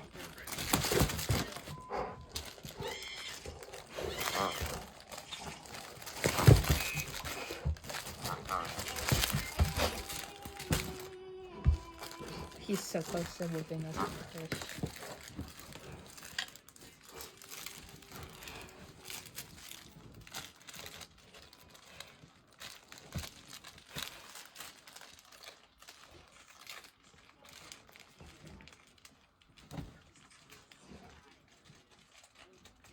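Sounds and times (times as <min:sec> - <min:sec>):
toy crinkling and rustling: 0:00.0 - 0:32.9.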